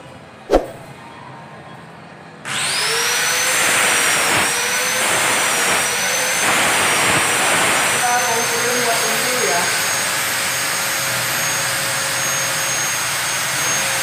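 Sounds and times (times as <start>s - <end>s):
power tool motor whining: 2.5s - 14.0s.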